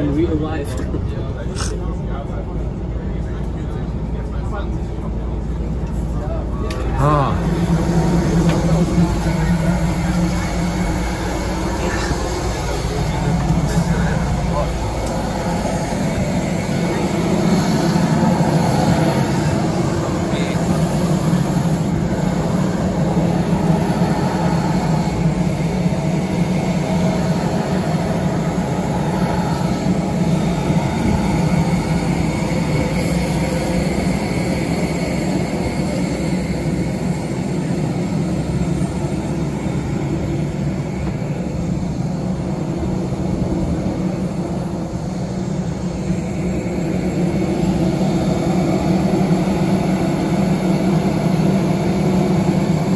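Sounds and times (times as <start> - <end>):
bus engine running: 0.0 - 52.9
jet airliner running: 0.0 - 52.9.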